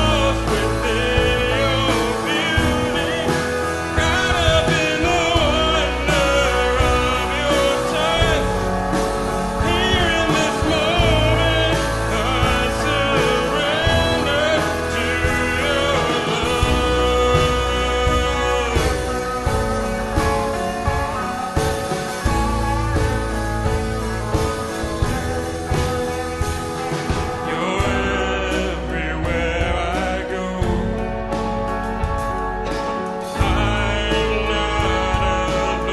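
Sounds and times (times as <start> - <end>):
deep bass notes: 0.0 - 35.9
lead vocal singing: 0.0 - 35.9
worship band playing: 0.0 - 35.9.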